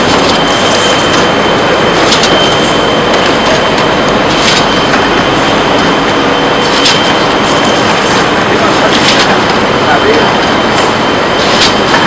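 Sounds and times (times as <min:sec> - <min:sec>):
factory machinery running: 0:00.0 - 0:12.0
thin steady whine: 0:00.0 - 0:12.0.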